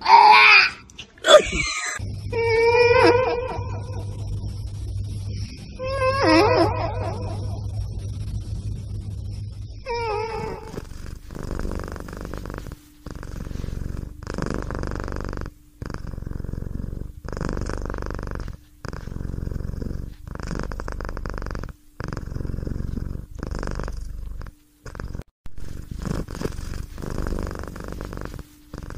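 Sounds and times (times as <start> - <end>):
cat purring: 2.0 - 28.9.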